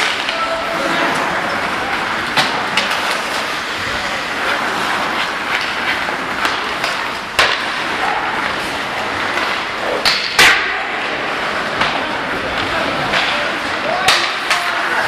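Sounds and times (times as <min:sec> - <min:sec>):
skates hissing on ice: 0:00.0 - 0:15.0
stick and puck clacks: 0:00.0 - 0:15.0.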